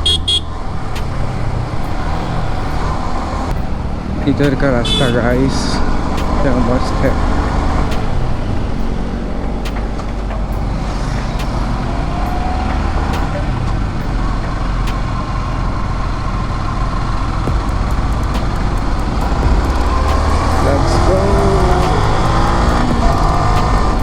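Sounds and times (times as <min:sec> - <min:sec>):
motorcycle engine cruising: 0:00.0 - 0:24.0.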